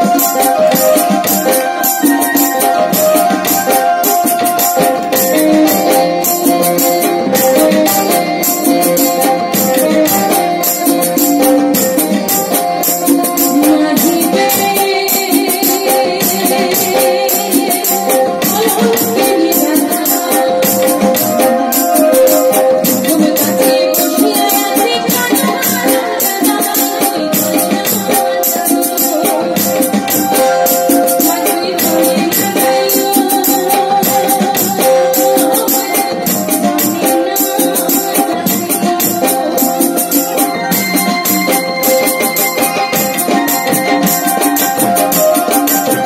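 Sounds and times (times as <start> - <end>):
fast rattling percussion beat: 0.0 - 46.0
held keyboard notes: 0.0 - 46.0.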